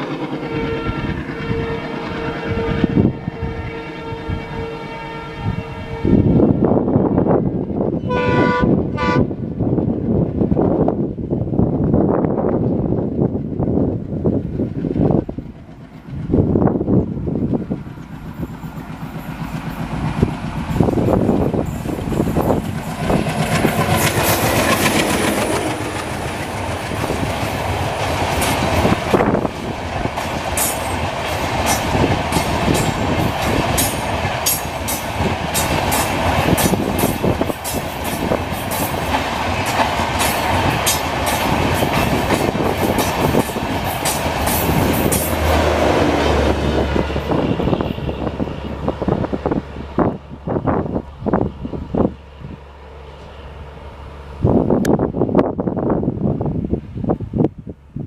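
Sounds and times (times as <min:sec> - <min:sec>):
diesel locomotive engine: 0:00.0 - 0:58.0
train coaches rumbling: 0:00.0 - 0:58.0.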